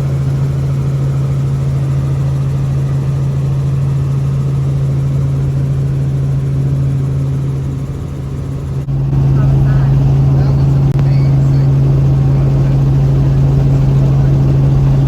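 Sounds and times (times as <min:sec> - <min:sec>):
helicopter cabin drone: 0:00.0 - 0:15.0.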